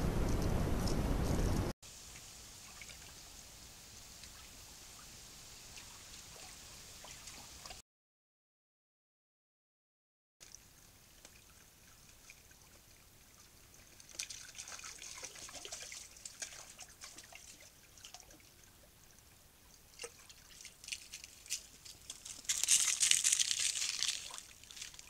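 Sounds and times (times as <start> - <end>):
water splashing and dripping: 2.0 - 7.8, 10.4 - 25.0.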